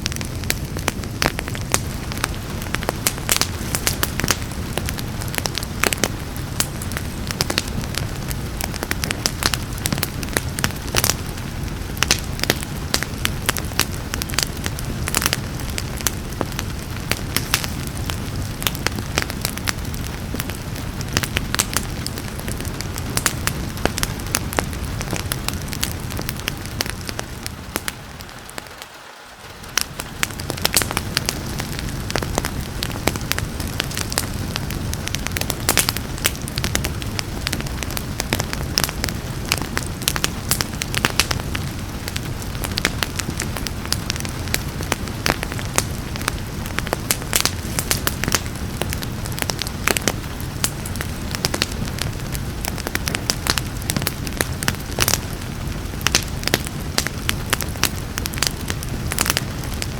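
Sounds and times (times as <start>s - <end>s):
rain hissing: 0.0s - 59.9s
wood fire crackling and popping: 0.0s - 59.9s.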